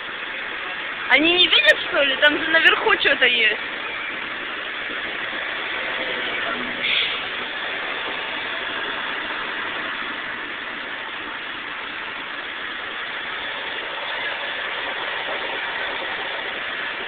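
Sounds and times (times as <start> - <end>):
fire engine motor droning: 0.0 - 17.0.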